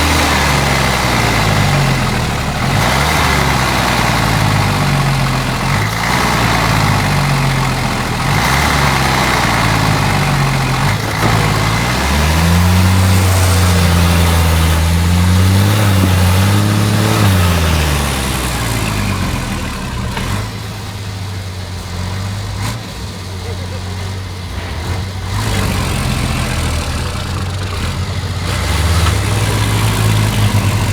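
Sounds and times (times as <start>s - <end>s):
diesel truck engine revving: 0.0s - 30.9s.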